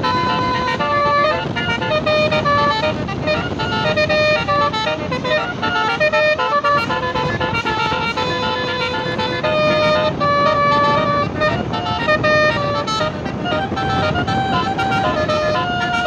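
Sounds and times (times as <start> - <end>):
bus and street rumble: 0.0 - 16.0
bus horn playing fast melody: 0.0 - 16.0.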